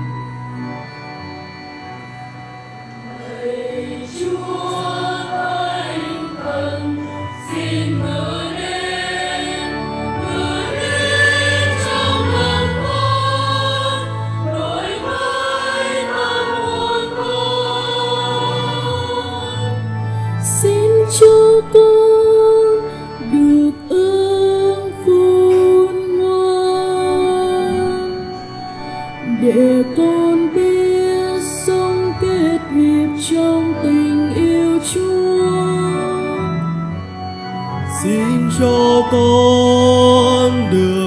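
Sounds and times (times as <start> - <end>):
organ playing: 0.0 - 41.0
choir singing: 3.0 - 28.6, 29.2 - 36.6, 37.9 - 41.0.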